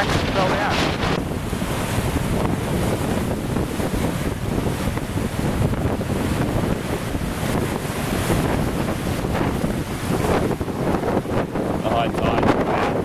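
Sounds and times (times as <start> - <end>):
waves breaking and washing: 0.0 - 13.0
wind buffeting microphone: 0.0 - 13.0.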